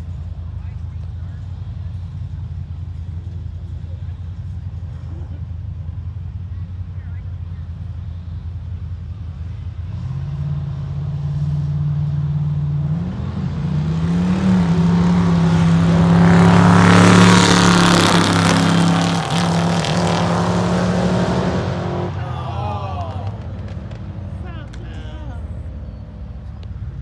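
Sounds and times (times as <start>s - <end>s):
engines revving and accelerating: 0.0s - 27.0s.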